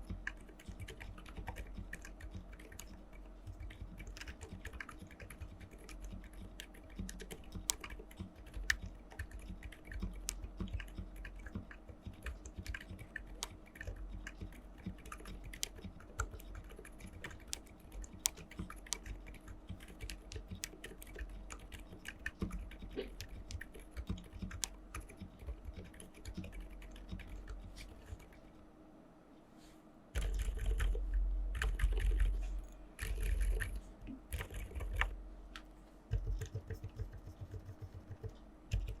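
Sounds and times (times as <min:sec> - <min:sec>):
soft keyboard typing: 0:00.0 - 0:28.6, 0:30.2 - 0:39.0.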